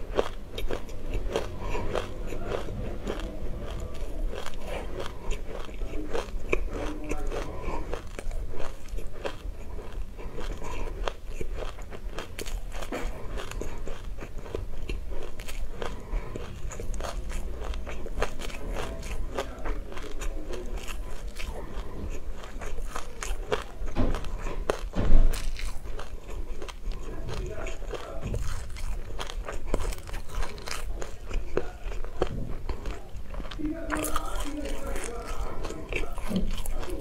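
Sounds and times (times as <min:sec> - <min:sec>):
chewing crunchy seeds: 0:00.0 - 0:37.0.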